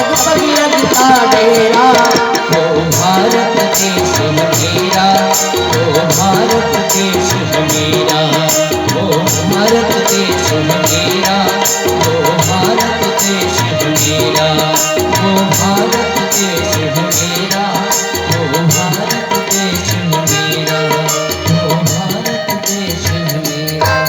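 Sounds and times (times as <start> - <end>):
tabla rhythm: 0.0 - 24.0.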